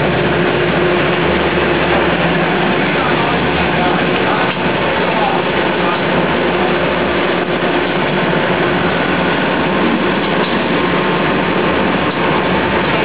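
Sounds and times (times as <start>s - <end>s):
factory machinery running: 0.0s - 13.0s.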